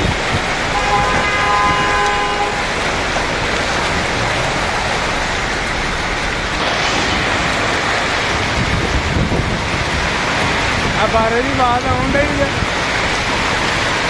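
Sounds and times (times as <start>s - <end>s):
heavy rain and hail: 0.0s - 14.0s.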